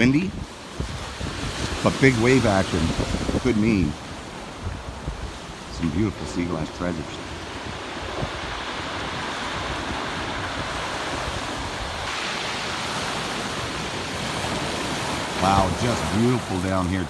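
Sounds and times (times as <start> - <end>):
ocean surf washing on shore: 0.0 - 17.0
wind noise on microphone: 0.0 - 17.0.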